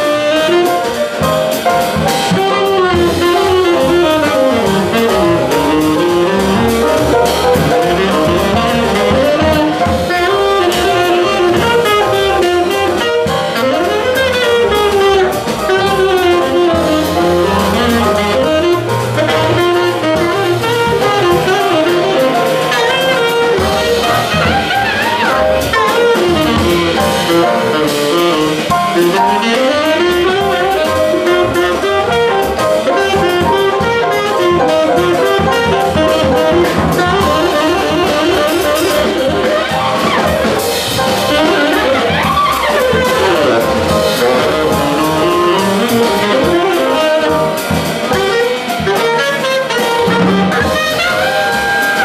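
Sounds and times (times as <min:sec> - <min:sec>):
drum kit: 0:00.0 - 0:52.0
piano: 0:00.0 - 0:52.0
tenor saxophone solo: 0:00.0 - 0:52.0
upright bass: 0:00.3 - 0:52.0.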